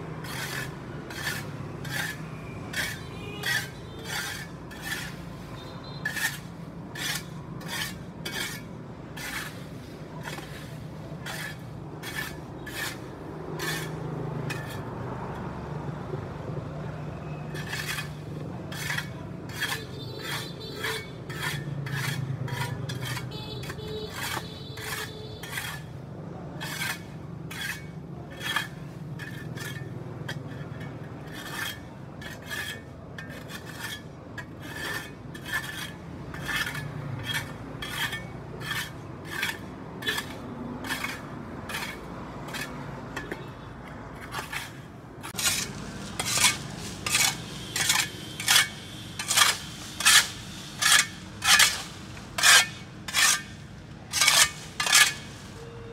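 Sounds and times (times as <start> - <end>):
hand tool scraping paving: 0.1 - 55.9.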